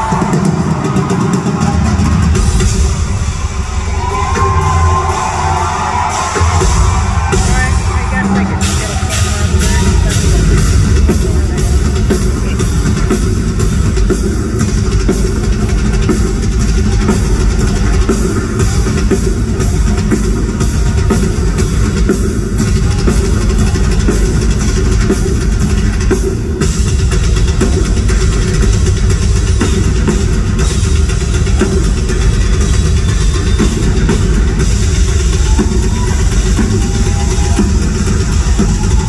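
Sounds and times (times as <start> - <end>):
rock drum solo: 0.0 - 39.0.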